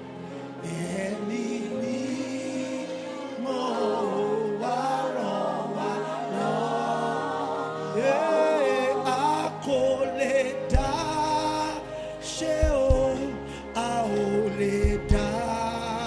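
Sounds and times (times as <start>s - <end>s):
choir singing gospel song: 0.0s - 16.0s
sustained accompaniment: 0.0s - 16.0s.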